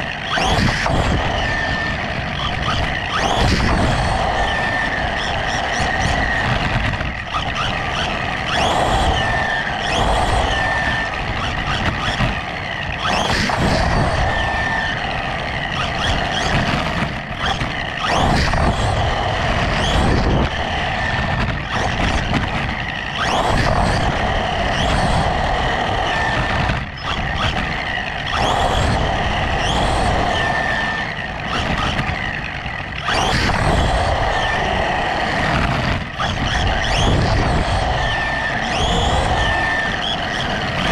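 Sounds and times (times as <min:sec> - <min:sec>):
electric motor whine: 0:00.0 - 0:40.9.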